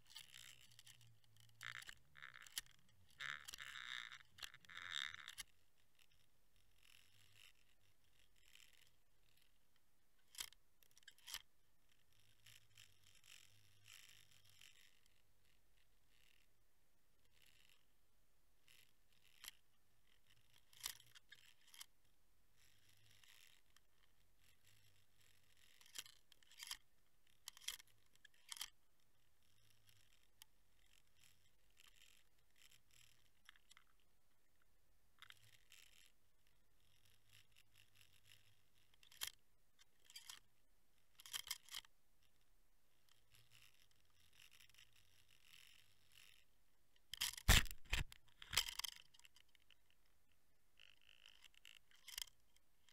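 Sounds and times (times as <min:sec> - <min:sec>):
faint scratching and clicking: 0:00.0 - 0:52.9.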